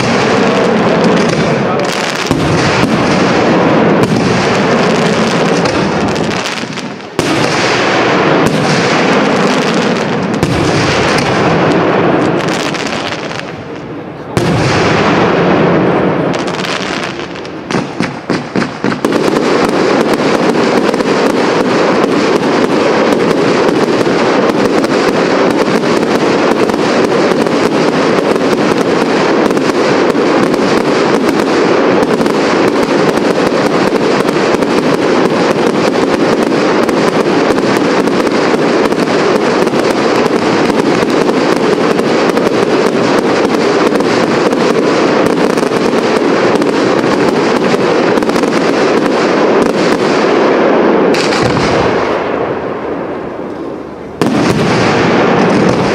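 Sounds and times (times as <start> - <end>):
firework bangs: 0.0 - 55.9
fireworks crackling barrage: 0.0 - 55.9
large firework burst: 0.0 - 55.9.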